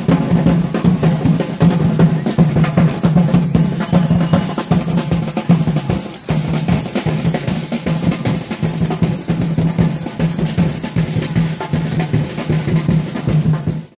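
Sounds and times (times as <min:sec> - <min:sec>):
drums beating fast rhythm: 0:00.0 - 0:13.9.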